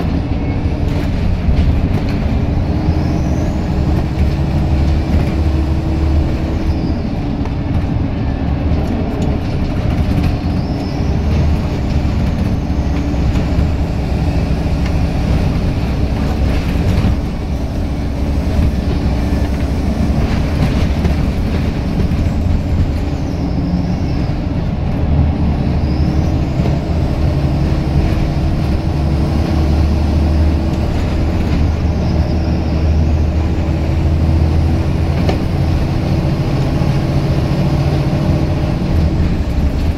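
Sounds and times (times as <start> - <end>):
bus diesel engine working hard: 0.0 - 39.9
road noise: 0.0 - 39.9.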